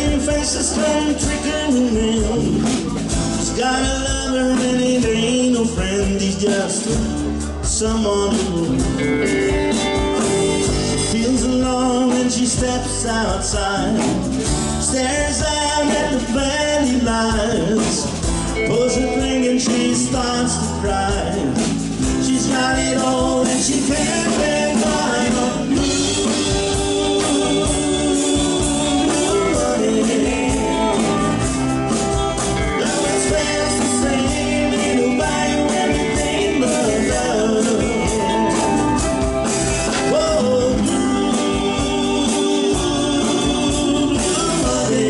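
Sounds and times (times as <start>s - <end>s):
bass guitar: 0.0s - 45.0s
drum kit: 0.0s - 45.0s
electric and acoustic guitars: 0.0s - 45.0s
lead vocal singing: 0.0s - 45.0s.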